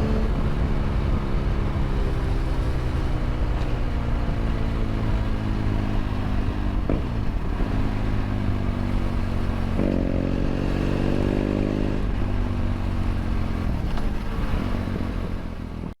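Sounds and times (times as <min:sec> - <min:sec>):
motorcycle engine and exhaust: 0:00.0 - 0:16.0.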